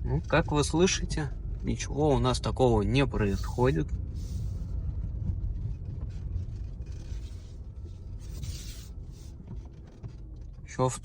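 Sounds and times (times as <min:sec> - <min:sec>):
car tyres rumbling on rough road: 0:00.0 - 0:11.0.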